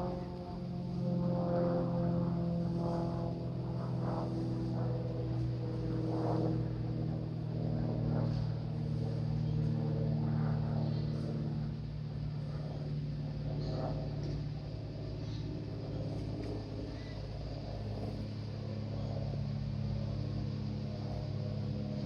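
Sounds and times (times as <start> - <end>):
engine drone: 0.0 - 22.0.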